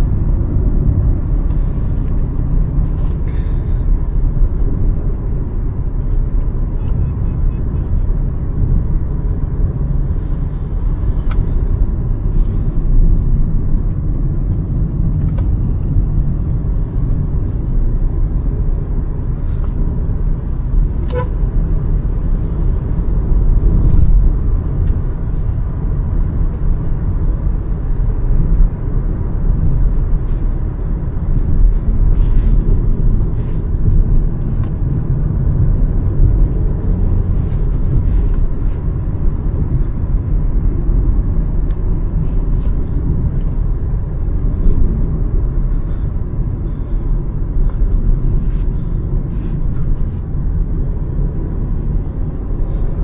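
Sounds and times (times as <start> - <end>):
car engine rumble: 0.0 - 53.0
road noise: 0.0 - 53.0.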